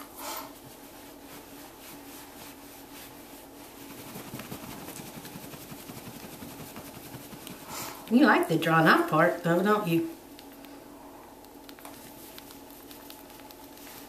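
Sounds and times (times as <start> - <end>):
towel rubbing wet fur: 0.0 - 9.8, 11.7 - 14.0
steady low hum: 0.0 - 14.0.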